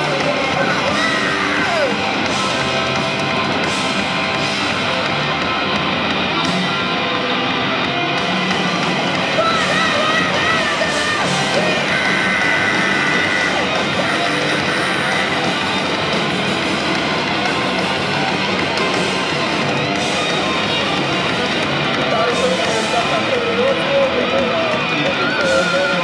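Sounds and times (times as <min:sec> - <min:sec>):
bass guitar: 0:00.0 - 0:26.0
distorted electric guitar: 0:00.0 - 0:26.0
drums: 0:00.0 - 0:26.0.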